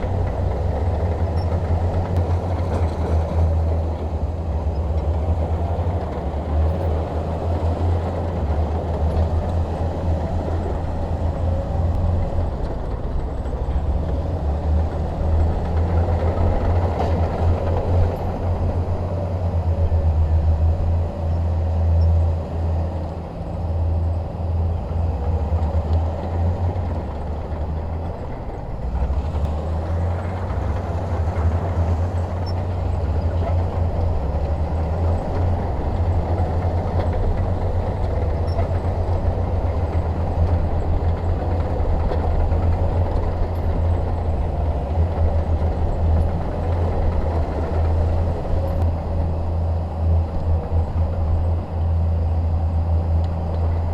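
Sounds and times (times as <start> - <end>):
bulldozer diesel engine droning: 0.0 - 53.9.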